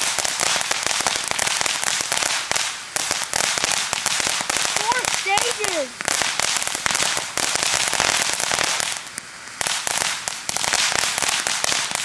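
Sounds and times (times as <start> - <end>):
firework fountain crackling: 0.0 - 12.0.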